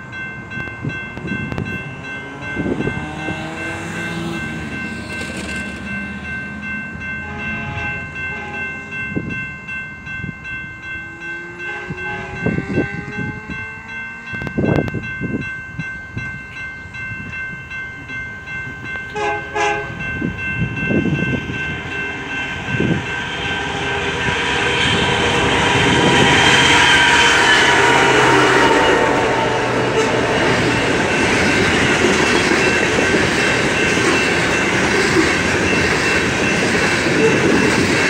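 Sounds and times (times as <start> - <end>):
diesel locomotive engine rumble: 0.0 - 38.0
train wheel noise: 0.0 - 38.0.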